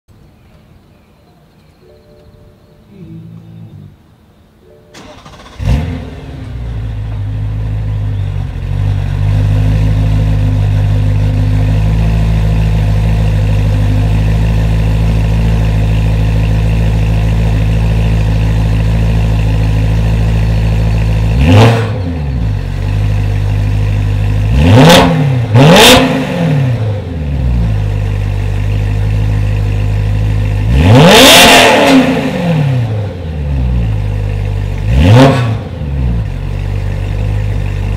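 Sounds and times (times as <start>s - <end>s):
car engine starting and revving: 5.0s - 37.9s.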